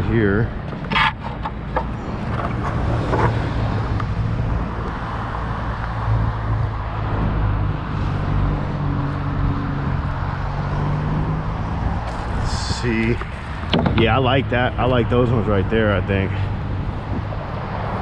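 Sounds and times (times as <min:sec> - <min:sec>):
outdoor street noise: 0:00.0 - 0:18.0.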